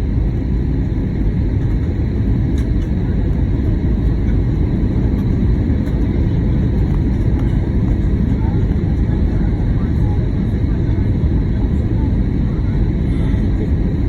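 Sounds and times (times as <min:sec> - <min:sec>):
airliner cabin engine rumble: 0:00.0 - 0:14.0
faint steady whine: 0:00.0 - 0:14.0.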